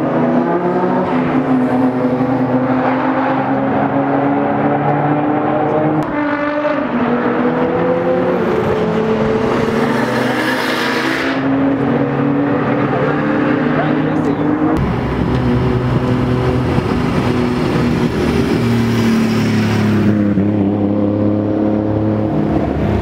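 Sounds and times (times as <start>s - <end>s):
car passing close with rush: 0.0s - 23.0s
race car engines at speed: 0.0s - 23.0s.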